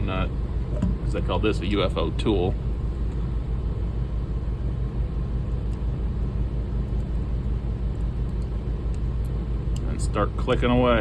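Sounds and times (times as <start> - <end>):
low mechanical hum and rumble: 0.0 - 11.0.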